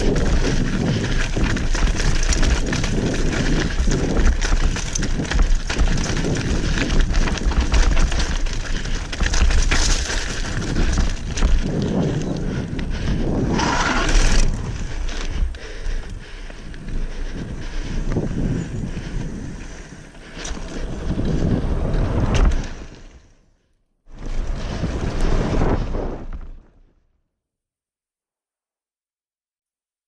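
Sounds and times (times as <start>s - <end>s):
bike tyres crunching on dirt: 0.0s - 23.4s, 24.1s - 26.8s.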